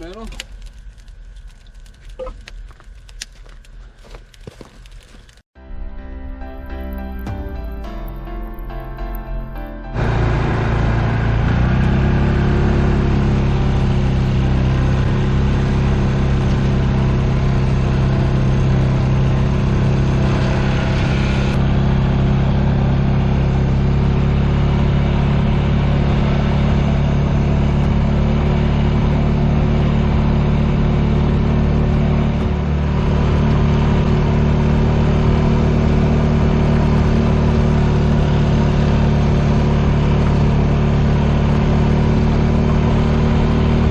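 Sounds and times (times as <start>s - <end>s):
engine running: 6.6s - 43.9s.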